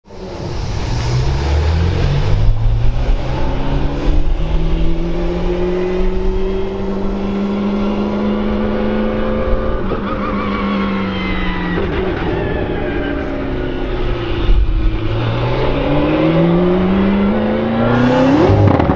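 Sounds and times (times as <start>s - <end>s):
race car engine pulling away: 0.1s - 18.9s.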